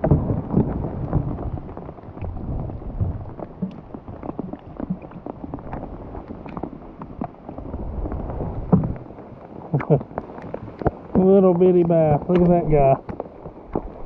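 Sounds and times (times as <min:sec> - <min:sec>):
low rumble: 0:00.0 - 0:11.3
rain pattering: 0:00.0 - 0:14.0.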